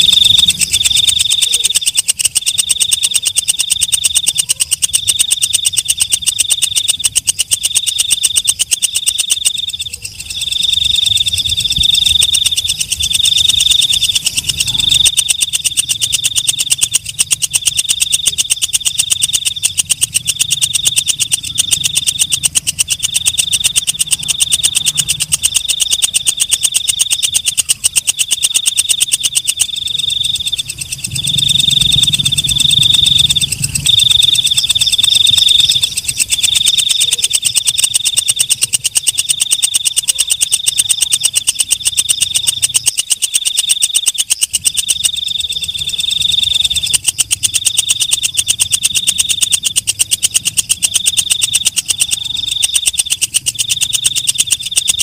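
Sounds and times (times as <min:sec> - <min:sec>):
katydid buzzing ticks: 0:00.0 - 0:55.0.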